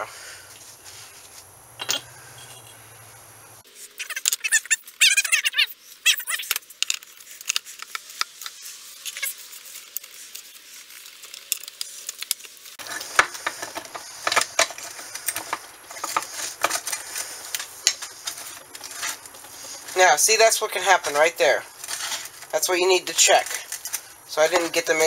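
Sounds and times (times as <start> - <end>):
rustling: 3.6 - 25.0.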